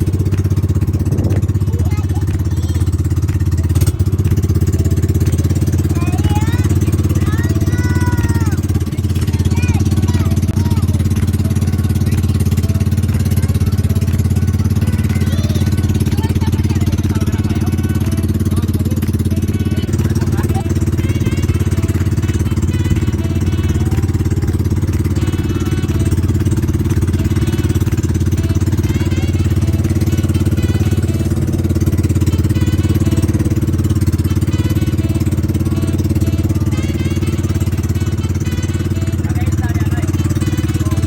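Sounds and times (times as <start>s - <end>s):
small boat engine running: 0.0s - 41.0s.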